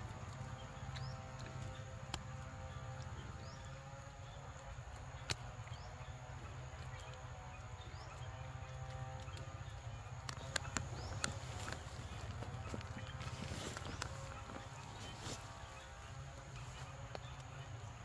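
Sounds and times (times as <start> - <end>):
sharp clicks: 0.1 - 14.9.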